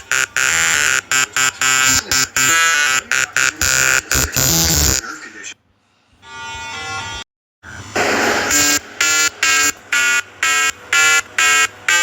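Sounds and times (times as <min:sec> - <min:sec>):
harsh electronic buzzer: 0:00.0 - 0:05.0, 0:06.2 - 0:07.2, 0:08.0 - 0:12.0.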